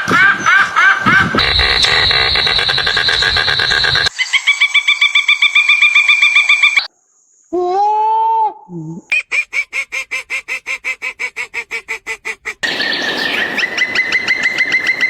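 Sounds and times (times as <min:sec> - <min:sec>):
animal calls rapid repeated: 0:00.0 - 0:06.9, 0:09.1 - 0:15.0.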